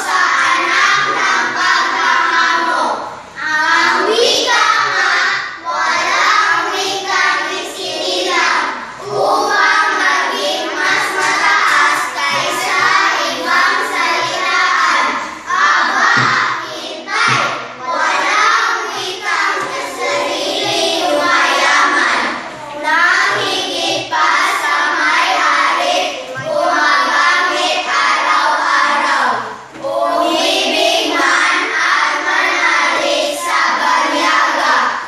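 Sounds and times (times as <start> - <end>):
children singing: 0.0 - 35.0.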